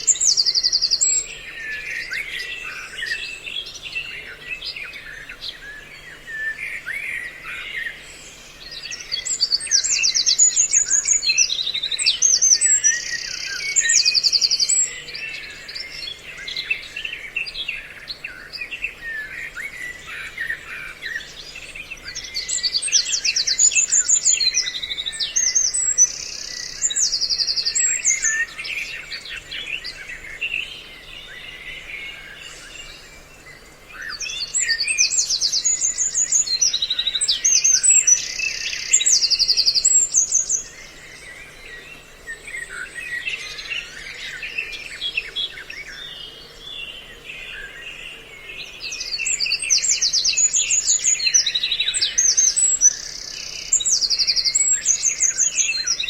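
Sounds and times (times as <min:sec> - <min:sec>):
songbirds chattering: 0:00.0 - 0:56.0.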